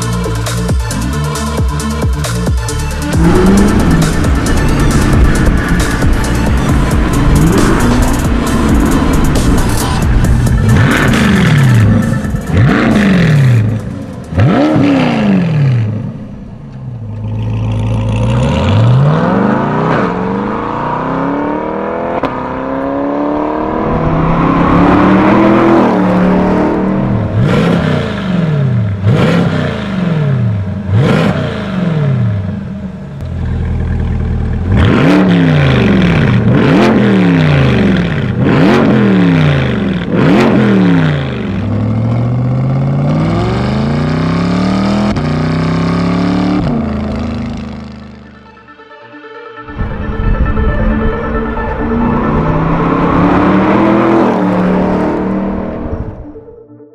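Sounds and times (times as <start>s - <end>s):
car engine revving: 0.0s - 48.5s, 49.7s - 56.5s.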